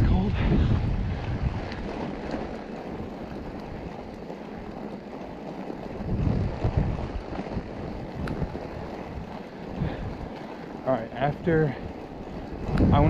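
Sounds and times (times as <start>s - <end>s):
bike rushing over snow: 0.0s - 13.0s
wind buffeting microphone: 0.0s - 13.0s.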